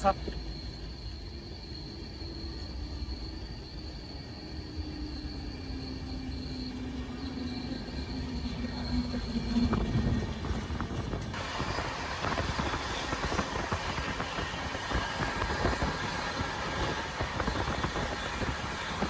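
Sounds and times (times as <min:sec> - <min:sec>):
train rushing rumble: 0:00.0 - 0:19.0.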